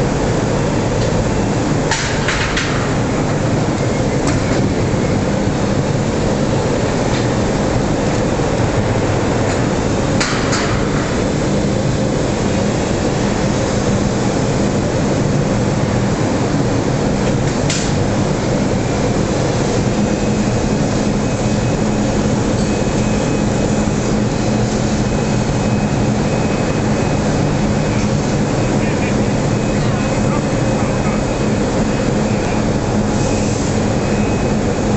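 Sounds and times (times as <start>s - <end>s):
industrial rumble: 0.0s - 34.9s.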